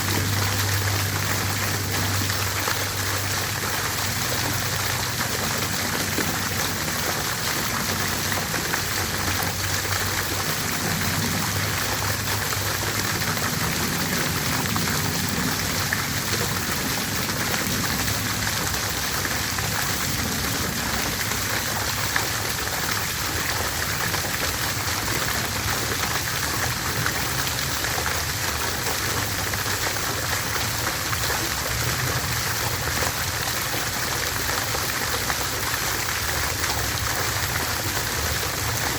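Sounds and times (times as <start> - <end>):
fountain water splashing: 0.0 - 38.9.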